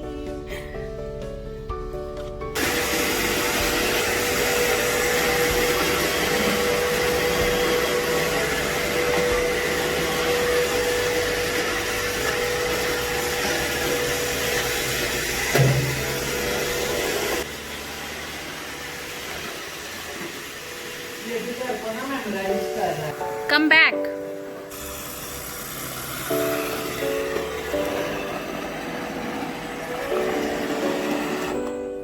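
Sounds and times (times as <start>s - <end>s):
robot vacuum whirring: 2.6s - 23.1s, 24.7s - 31.9s.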